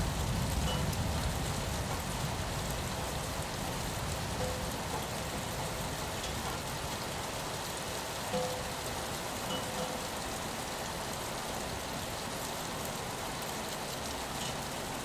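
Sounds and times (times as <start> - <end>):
rain on a window pane: 0.0 - 15.0.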